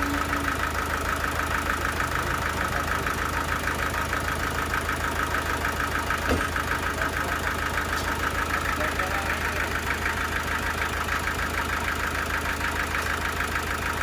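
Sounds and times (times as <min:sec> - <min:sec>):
sawmill machinery pulsing: 0:00.0 - 0:14.0.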